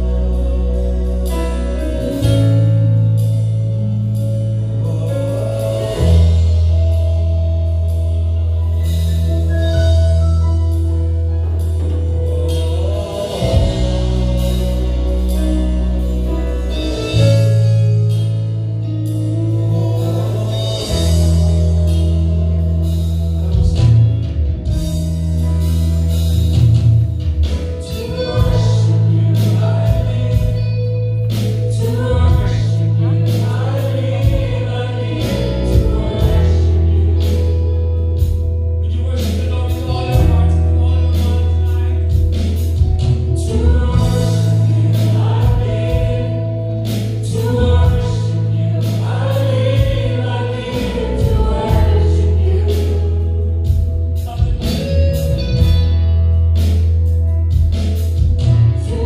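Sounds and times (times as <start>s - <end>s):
choir singing gospel music: 0.0s - 59.0s
held bass notes: 0.0s - 59.0s.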